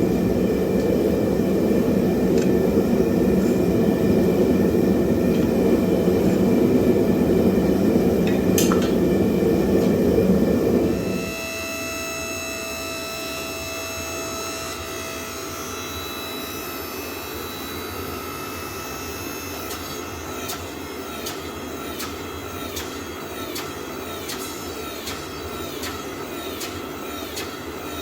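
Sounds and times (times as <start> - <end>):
forge equipment roaring: 0.0 - 28.0.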